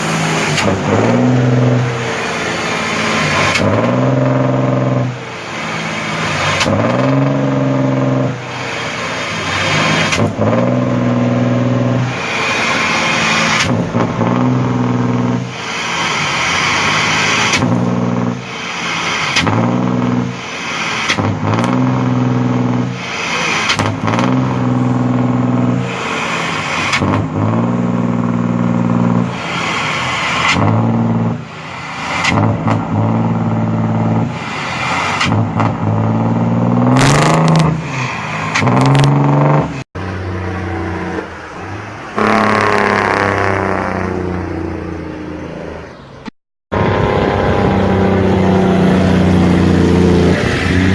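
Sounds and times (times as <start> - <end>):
vehicle engine revving: 0.0 - 50.9.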